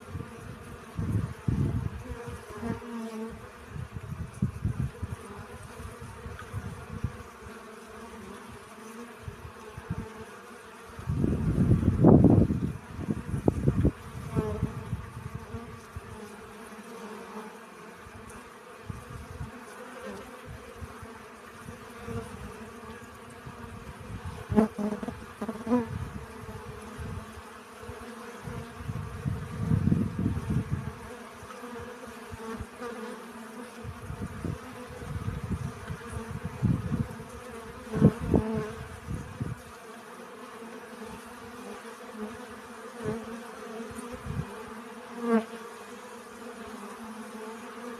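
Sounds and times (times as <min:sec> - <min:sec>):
bees buzzing: 0:00.0 - 0:47.9.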